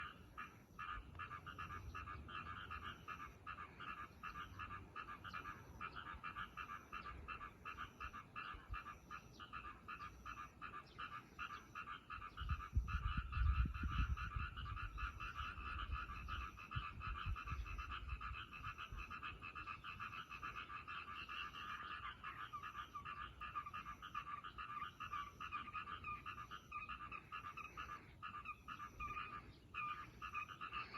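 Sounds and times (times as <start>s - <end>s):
frogs croaking in chorus: 0.0s - 30.9s.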